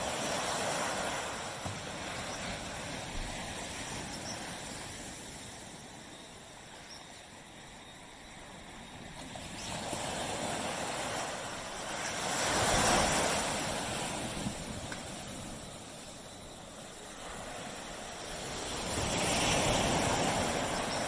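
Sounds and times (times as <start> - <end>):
waves washing on beach: 0.0 - 21.0.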